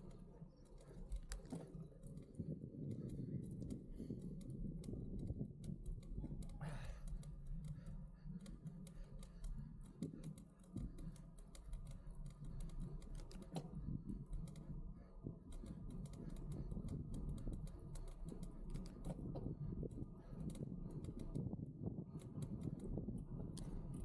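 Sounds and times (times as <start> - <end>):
bike clicks and rattles: 0.0 - 24.0
wind rumbling on microphone: 0.0 - 24.0.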